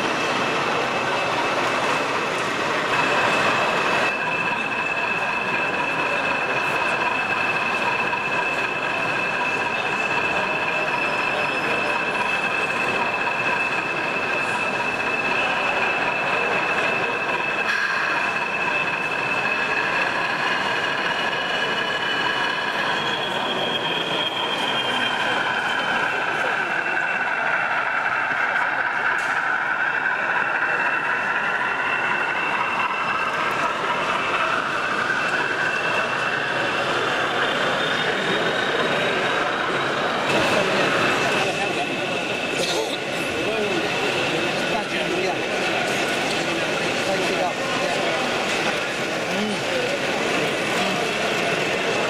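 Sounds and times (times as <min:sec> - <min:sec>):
wheels rolling on track: 0:00.0 - 0:52.0.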